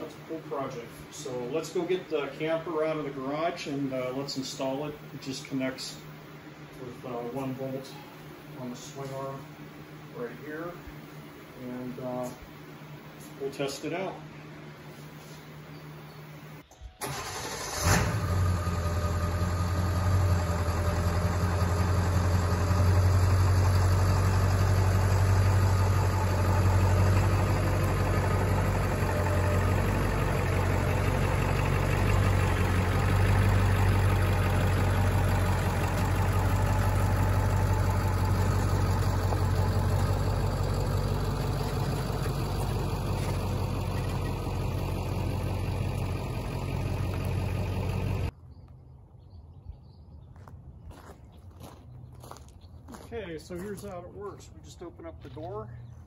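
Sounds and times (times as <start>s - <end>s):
truck engine low drone: 0.0s - 56.0s.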